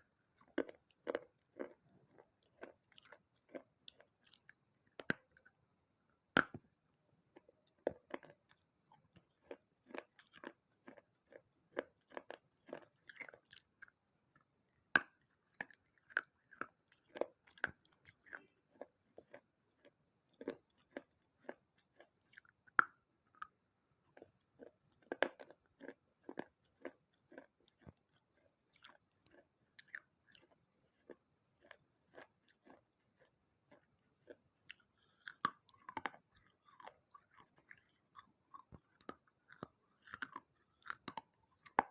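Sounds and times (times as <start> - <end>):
crunching and chewing of clay: 0.0 - 41.9.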